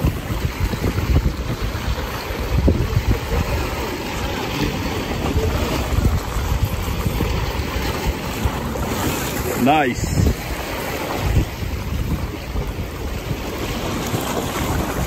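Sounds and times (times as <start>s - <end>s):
fast-moving water rushing: 0.0s - 15.0s
wind buffeting the microphone: 0.0s - 15.0s.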